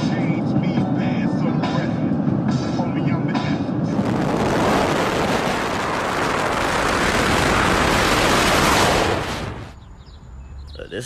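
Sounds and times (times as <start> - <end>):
wind and road noise from car: 0.0 - 11.0.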